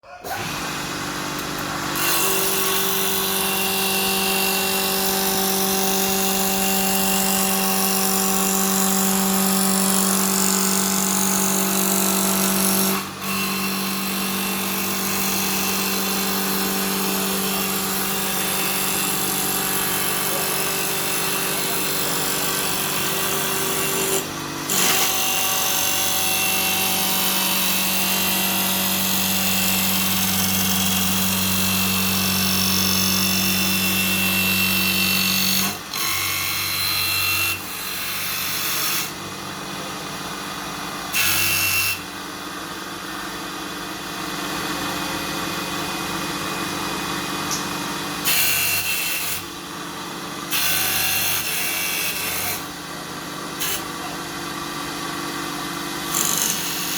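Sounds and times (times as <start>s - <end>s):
tool cutting turning wood: 0.0s - 39.2s, 46.6s - 49.6s, 50.4s - 52.8s, 55.7s - 56.9s.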